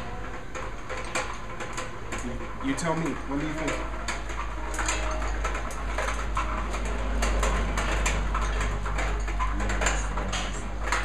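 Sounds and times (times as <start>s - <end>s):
coffee roaster rumbling: 0.0s - 11.0s
irregular clicks and ticks: 0.0s - 11.0s.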